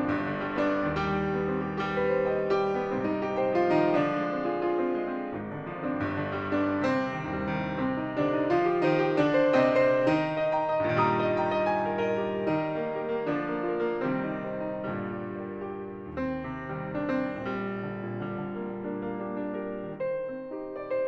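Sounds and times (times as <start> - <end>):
solo classical piano: 0.0 - 21.0.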